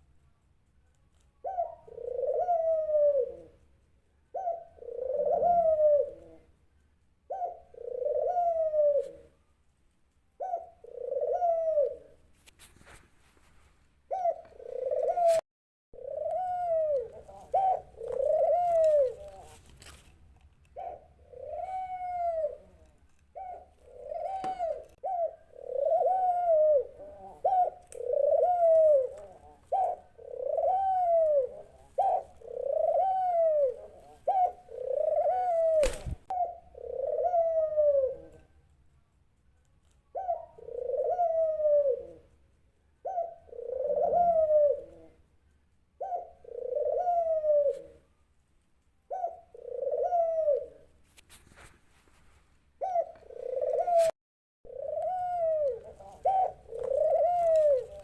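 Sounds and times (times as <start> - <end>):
dove cooing: 1.4 - 6.6, 7.2 - 9.4, 10.3 - 12.3, 14.1 - 15.4, 16.0 - 20.0, 20.7 - 38.6, 40.1 - 42.4, 43.0 - 45.3, 46.0 - 48.1, 49.0 - 51.0, 52.8 - 58.0.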